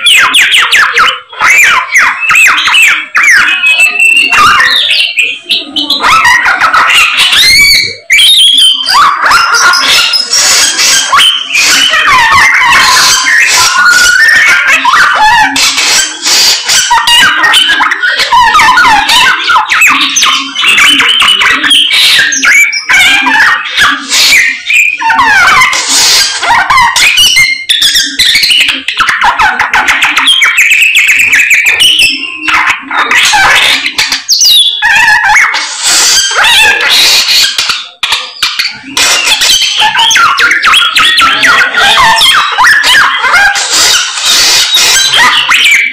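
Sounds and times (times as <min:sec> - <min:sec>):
bird singing with trills: 0:00.0 - 0:45.9.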